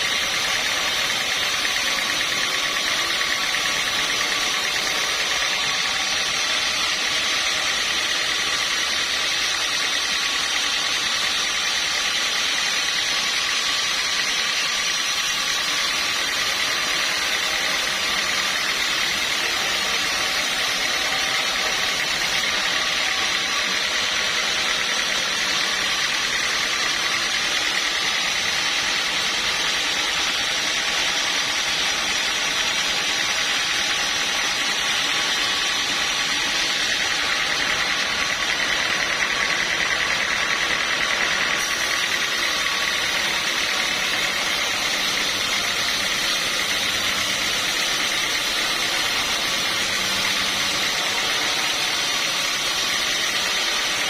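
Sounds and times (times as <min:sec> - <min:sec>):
high mechanical whine: 0:00.0 - 0:54.0
sawmill machinery running: 0:00.0 - 0:54.0.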